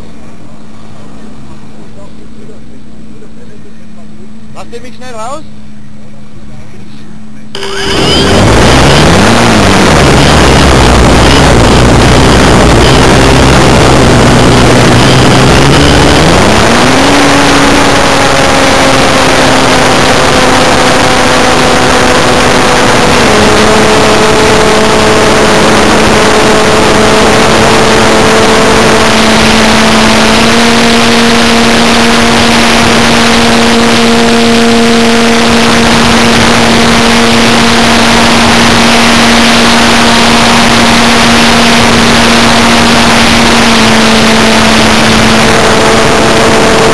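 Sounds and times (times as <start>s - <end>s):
model airplane motor whine: 7.6s - 46.9s.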